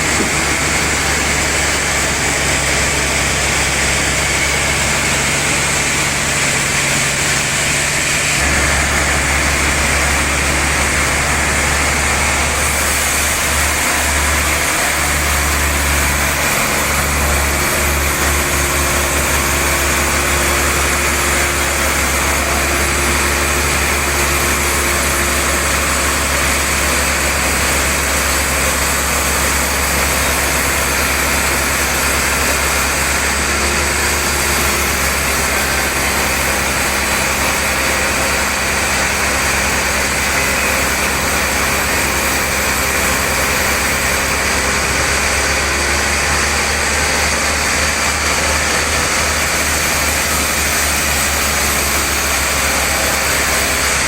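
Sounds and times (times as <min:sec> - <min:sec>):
bandsaw sawing through log: 0:00.0 - 0:54.0.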